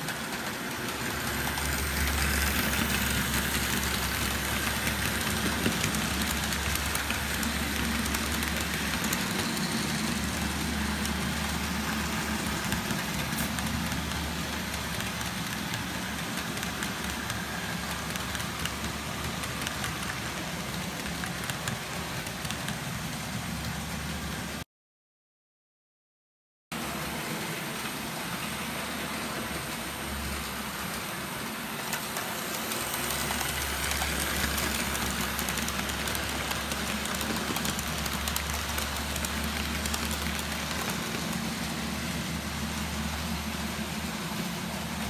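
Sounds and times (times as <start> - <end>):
model train motor hum: 0.0 - 22.8, 30.4 - 45.0
wheels rumbling on rails: 0.0 - 24.6, 26.8 - 45.0.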